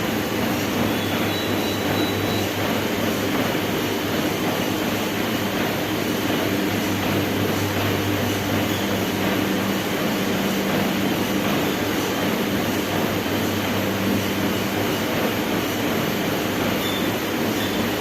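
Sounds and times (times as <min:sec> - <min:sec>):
treadmill belt noise: 0:00.0 - 0:18.0
treadmill motor hum: 0:00.0 - 0:18.0.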